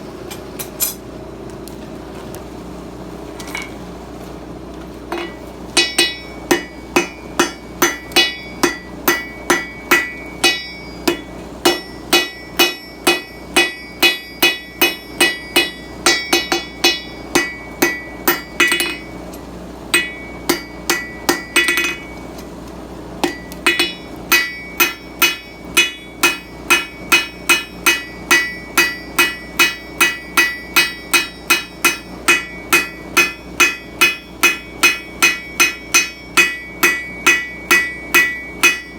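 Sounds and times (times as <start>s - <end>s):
hammer striking steel on anvil: 5.1s - 22.4s, 23.2s - 38.9s.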